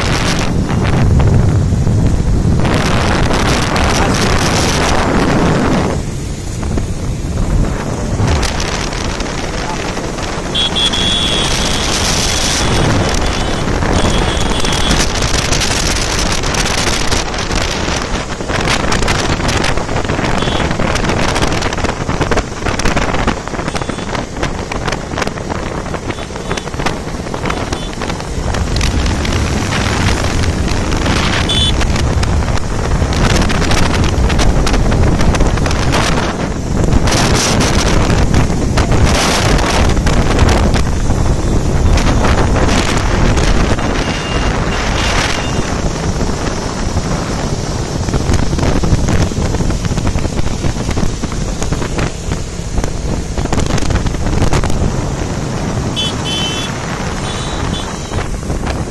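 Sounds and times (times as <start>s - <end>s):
wind buffeting microphone: 0.0s - 10.6s, 11.3s - 58.9s
motorcycle engines: 0.0s - 58.9s.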